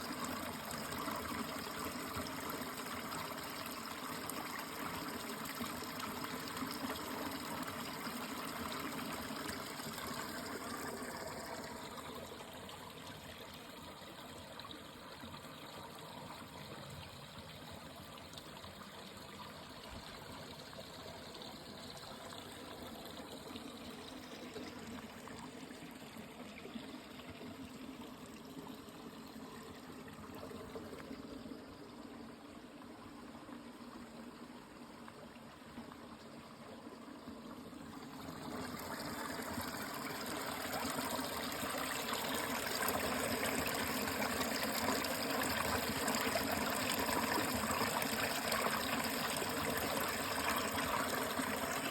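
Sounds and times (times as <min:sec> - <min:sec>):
water trickling: 0:00.0 - 0:51.9.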